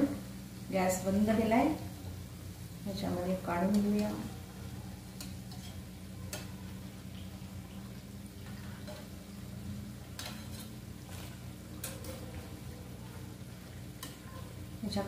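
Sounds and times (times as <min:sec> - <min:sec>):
hot oil bubbling: 0:00.0 - 0:15.0.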